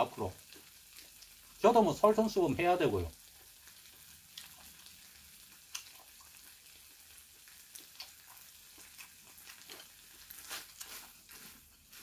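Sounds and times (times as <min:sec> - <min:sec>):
octopus sizzling in a frying pan: 0:00.0 - 0:12.0
small pops and crackles: 0:00.3 - 0:01.6, 0:03.1 - 0:12.0.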